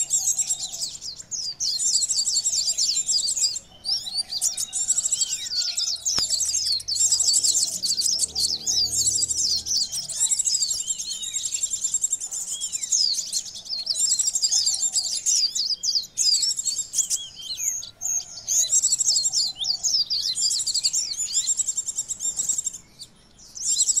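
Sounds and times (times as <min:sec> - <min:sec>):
sunbirds chirping and trilling: 0:00.0 - 0:24.0.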